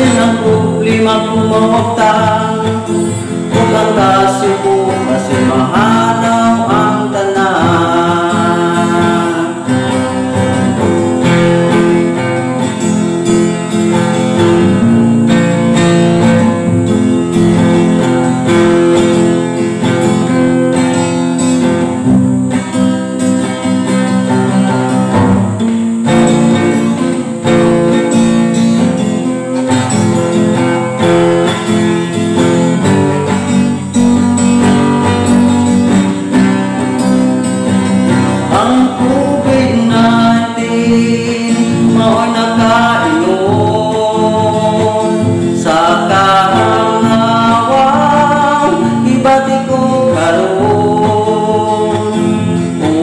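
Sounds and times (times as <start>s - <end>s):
acoustic guitar strumming: 0.0s - 53.0s
man singing: 0.0s - 53.0s.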